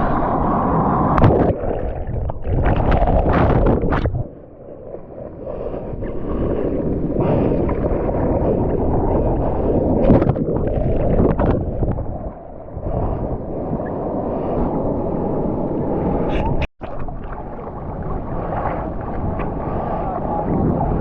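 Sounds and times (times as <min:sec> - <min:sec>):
surf water churning and splashing: 0:00.0 - 0:21.0.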